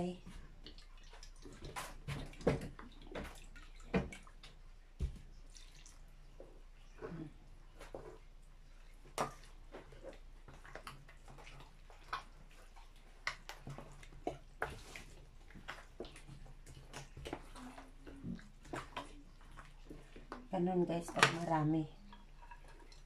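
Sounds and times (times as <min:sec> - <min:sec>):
wet squishing of vegetables: 0:00.0 - 0:23.0.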